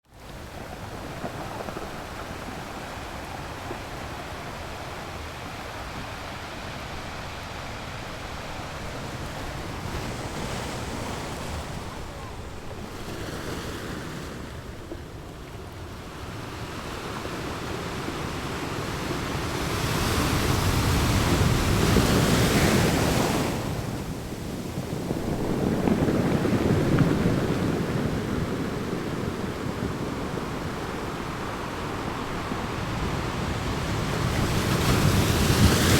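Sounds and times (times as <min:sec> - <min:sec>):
big waves crashing: 0:00.0 - 0:35.9
waves washing on beach: 0:00.0 - 0:35.9.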